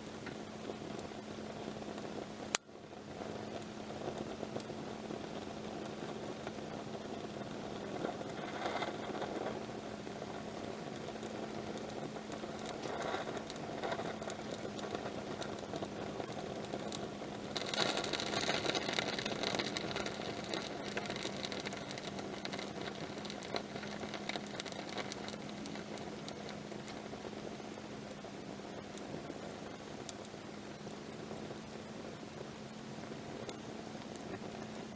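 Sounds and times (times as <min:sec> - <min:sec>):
campfire crackling and popping: 0:00.0 - 0:34.9
faint steady hum: 0:00.0 - 0:34.9.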